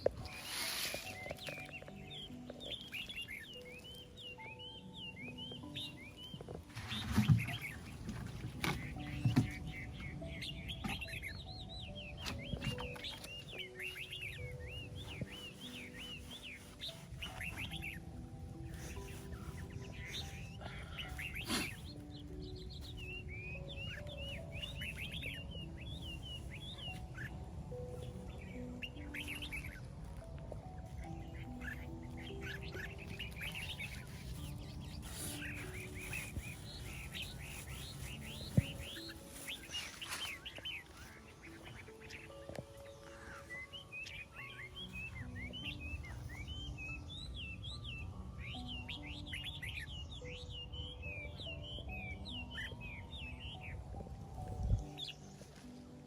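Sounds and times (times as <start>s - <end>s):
small birds chirping: 0.0s - 56.0s
soft background music: 0.0s - 56.0s.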